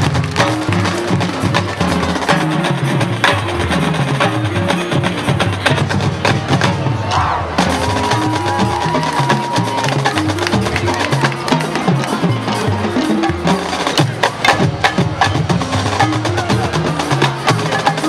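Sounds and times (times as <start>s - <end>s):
drumline drums: 0.0s - 18.0s
mallet instruments: 0.0s - 18.0s.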